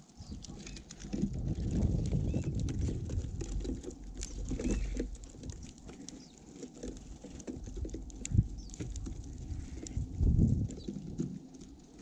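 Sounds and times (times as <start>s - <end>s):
birds pecking seeds: 0.0s - 12.0s
rustling and low bumps: 0.2s - 12.0s.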